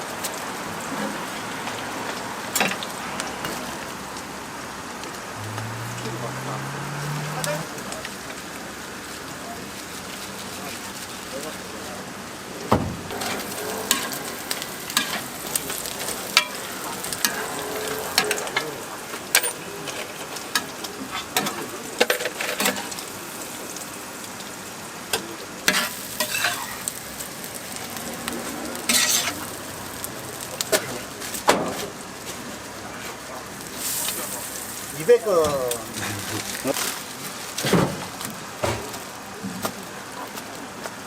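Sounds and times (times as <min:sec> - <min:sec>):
food sizzling on a griddle: 0:00.0 - 0:41.0.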